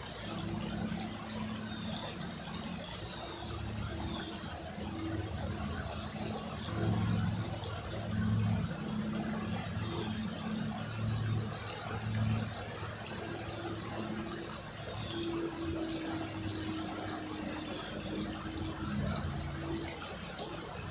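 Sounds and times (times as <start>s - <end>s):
low motor hum: 0.0s - 20.9s.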